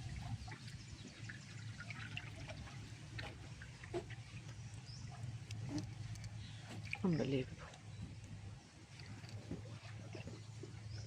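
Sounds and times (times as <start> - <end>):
floodwater trickling and splashing: 0.0 - 11.0
small splashes and drips: 0.0 - 11.0.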